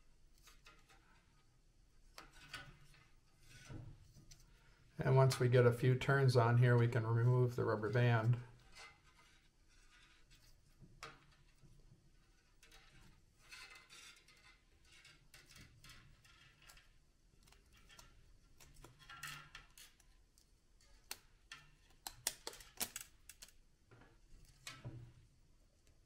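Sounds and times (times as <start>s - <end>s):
wire scraping and rustling: 0.2s - 25.2s.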